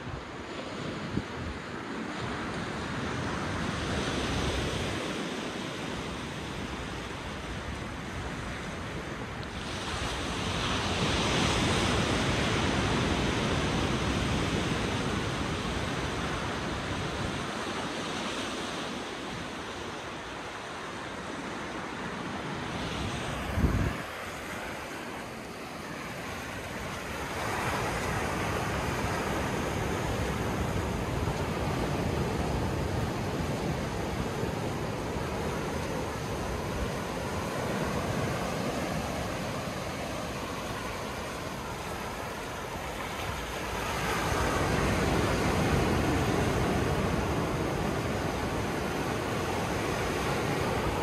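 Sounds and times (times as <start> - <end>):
surf rushing: 0.0 - 51.0
wind: 0.0 - 51.0.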